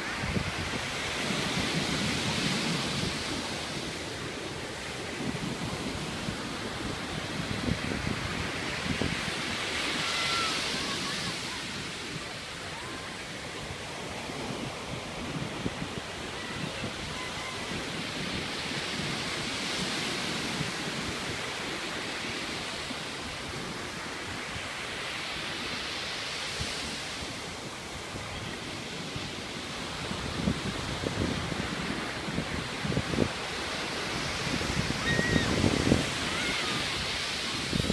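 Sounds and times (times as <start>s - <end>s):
wind buffeting microphone: 0.0s - 24.7s, 26.5s - 37.9s
waves breaking on beach: 0.0s - 37.9s.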